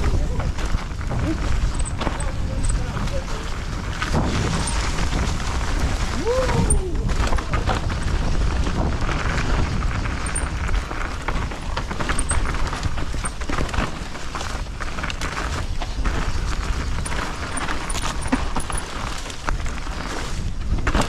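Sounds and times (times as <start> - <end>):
bike rattling clicks and knocks: 0.0 - 21.0
bike tyres over rocks and roots: 0.0 - 21.0.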